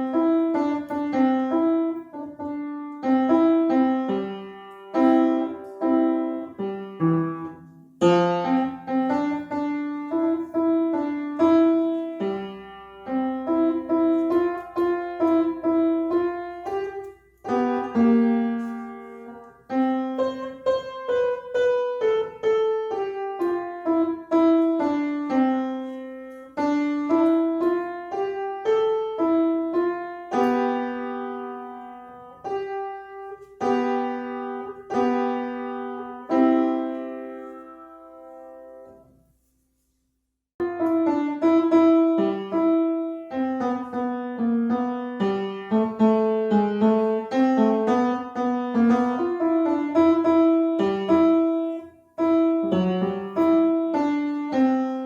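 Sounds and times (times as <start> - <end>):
solo piano melody: 0.0 - 40.0, 40.6 - 55.0.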